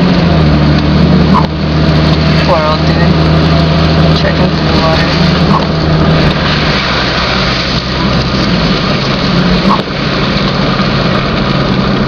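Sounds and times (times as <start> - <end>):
car engine running: 0.0 - 12.0
water rushing under car: 0.0 - 12.0.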